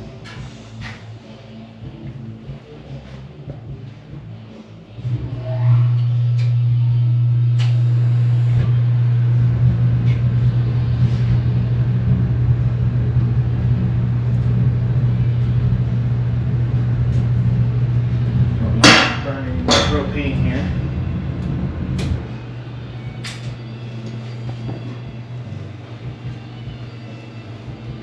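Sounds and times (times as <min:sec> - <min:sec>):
rotary phase converter humming: 0:00.0 - 0:28.0
rough low rumble: 0:03.5 - 0:28.0.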